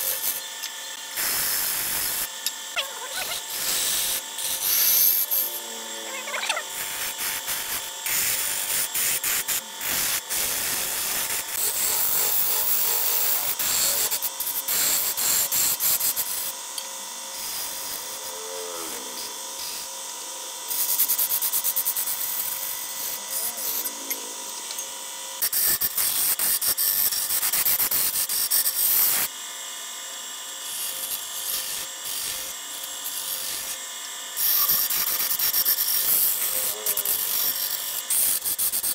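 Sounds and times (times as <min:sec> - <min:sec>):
lathe whine: 0:00.0 - 0:38.9.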